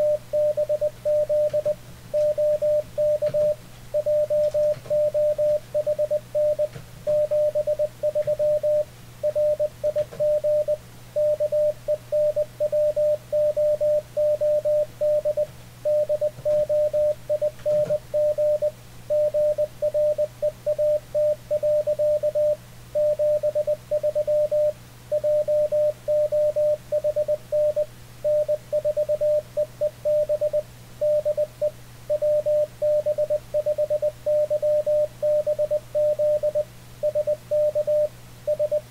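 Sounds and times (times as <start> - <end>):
faint low hum: 0.0 - 38.9
morse code tone: 0.0 - 38.9.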